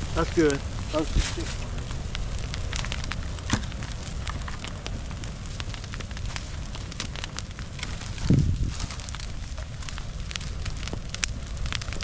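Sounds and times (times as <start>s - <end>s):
brush fire crackling and popping: 0.0s - 12.0s.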